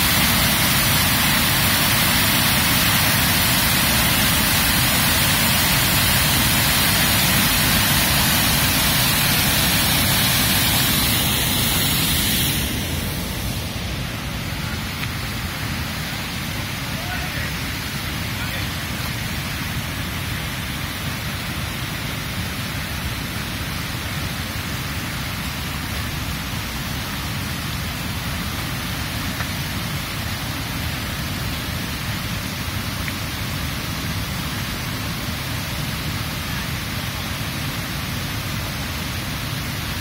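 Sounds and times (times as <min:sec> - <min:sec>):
river rapids rushing: 0:00.0 - 0:40.0.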